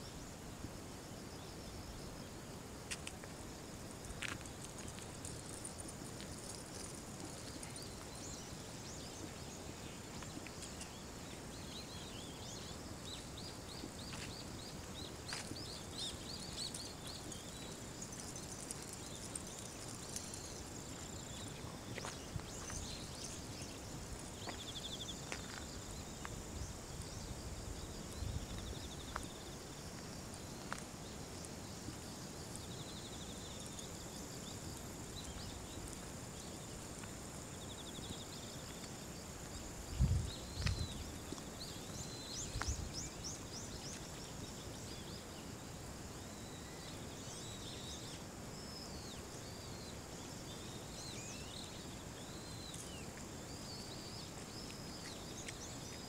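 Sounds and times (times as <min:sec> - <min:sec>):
insects chirping and trilling: 0:00.0 - 0:56.0
low outdoor noise: 0:00.0 - 0:56.0.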